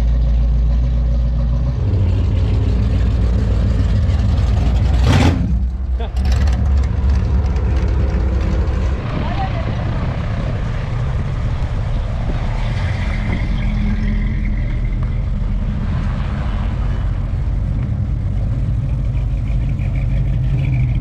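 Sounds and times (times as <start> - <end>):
car engines rumbling past: 0.0 - 21.0.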